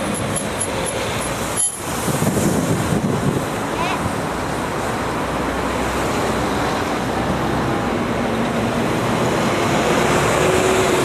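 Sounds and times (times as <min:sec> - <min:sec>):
bus engine hum: 0:00.0 - 0:11.0
street traffic: 0:00.0 - 0:11.0.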